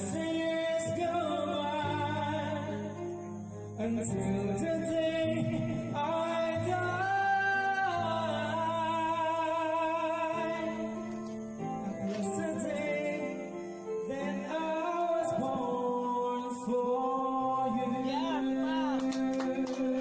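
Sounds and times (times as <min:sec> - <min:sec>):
pop ballad with guitar and singing: 0:00.0 - 0:20.0.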